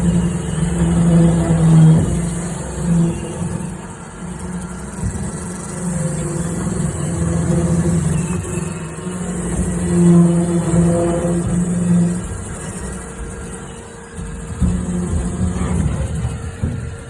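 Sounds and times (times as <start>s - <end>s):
robot vacuum motor hum: 0.0s - 17.0s
rumbling and scraping in metal duct: 0.0s - 17.0s.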